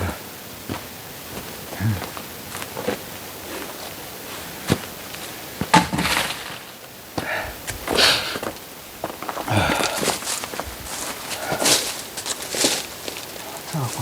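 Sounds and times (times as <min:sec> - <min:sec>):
scraping rustles: 0:01.4 - 0:14.0.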